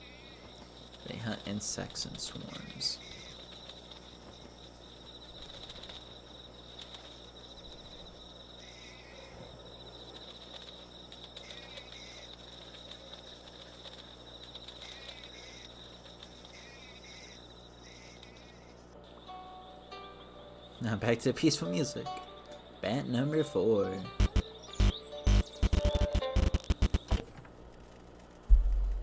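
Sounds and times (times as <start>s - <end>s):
insects trilling: 0.0s - 28.5s
insect chirps: 0.0s - 29.0s.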